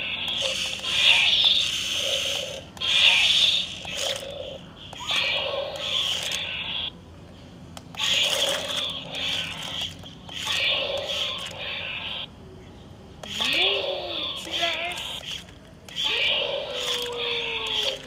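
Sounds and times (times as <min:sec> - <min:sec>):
electronic toy screeching cries: 0:00.0 - 0:06.9, 0:08.0 - 0:12.3, 0:13.2 - 0:18.0.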